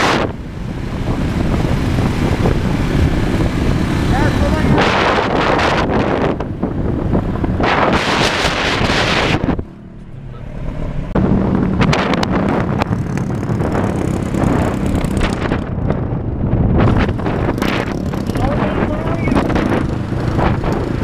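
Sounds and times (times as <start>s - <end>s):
engine drone: 0.0s - 21.0s
vehicle road noise: 0.0s - 21.0s
wind buffeting microphone: 0.0s - 21.0s.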